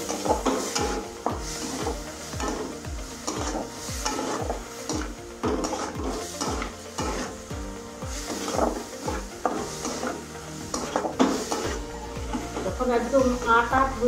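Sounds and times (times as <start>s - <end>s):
spatula scraping a pan: 0.0s - 7.5s, 8.1s - 12.8s
paste sizzling in a pan: 0.0s - 14.0s.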